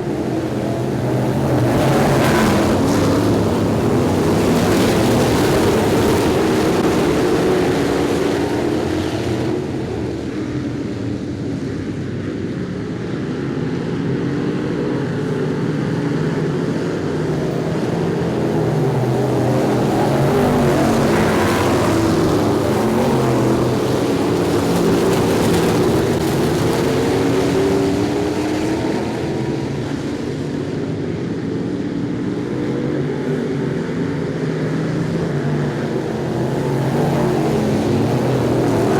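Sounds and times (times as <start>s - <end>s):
race car engines: 0.0s - 38.9s.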